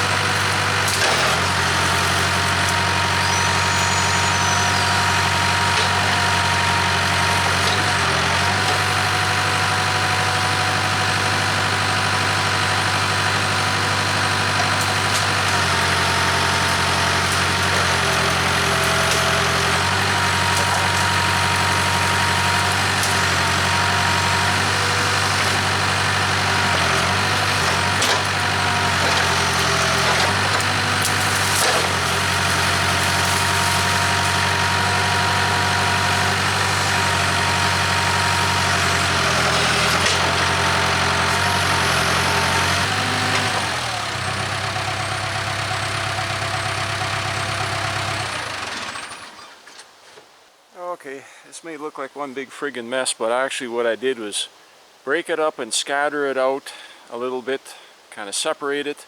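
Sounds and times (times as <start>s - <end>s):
diesel engine running: 0.0s - 49.6s.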